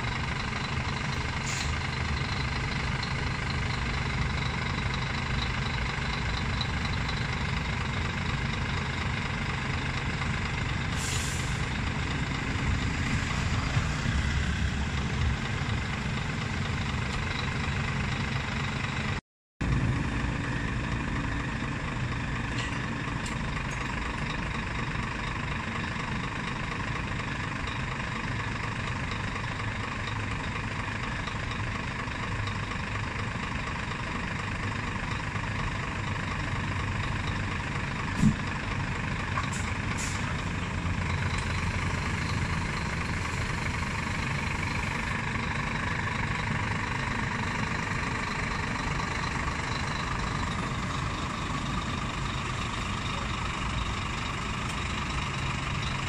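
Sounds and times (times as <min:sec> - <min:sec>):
truck diesel engine idling: 0:00.0 - 0:56.0.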